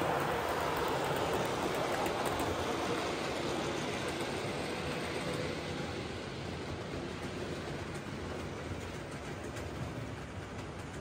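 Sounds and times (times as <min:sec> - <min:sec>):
model train rumbling on track: 0:00.0 - 0:11.0.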